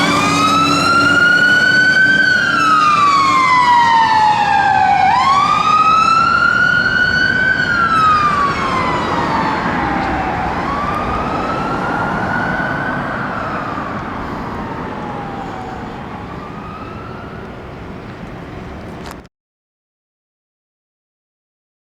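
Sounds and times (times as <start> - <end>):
fire engine siren wailing: 0.0 - 19.1.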